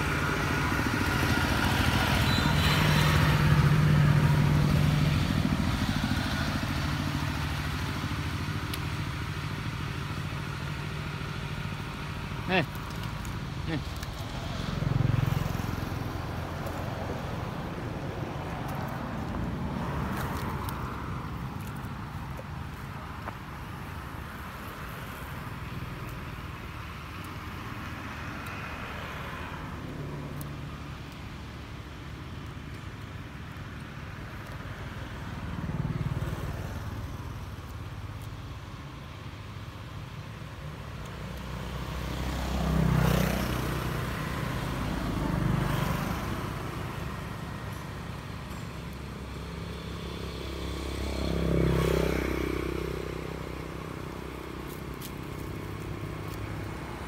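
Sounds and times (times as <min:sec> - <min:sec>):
outdoor background noise: 0:00.0 - 0:57.0
vehicles passing: 0:00.0 - 0:57.0.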